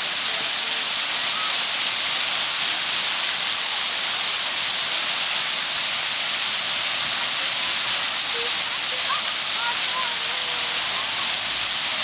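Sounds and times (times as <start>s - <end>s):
water fountain splashing: 0.0s - 12.0s.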